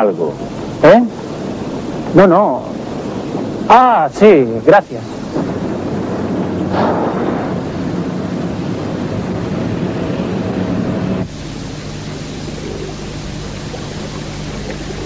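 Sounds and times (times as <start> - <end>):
low hum: 0.0 - 15.0
street noise rushing: 0.0 - 15.0.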